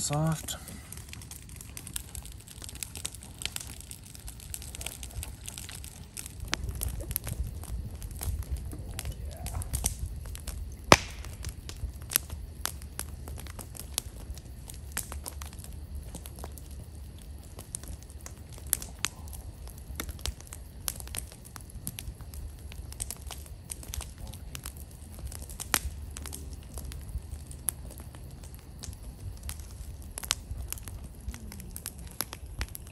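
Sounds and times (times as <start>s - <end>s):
campfire crackling and popping: 0.0s - 32.9s
low steady rumble: 0.0s - 32.9s.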